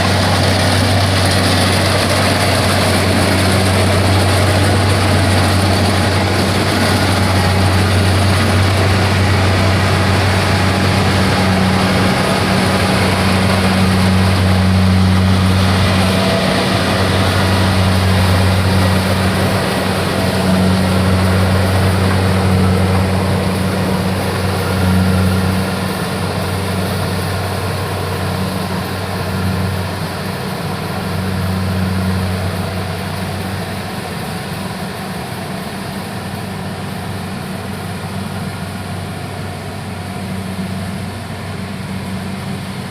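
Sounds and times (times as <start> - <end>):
farm machine engine running: 0.0 - 42.9.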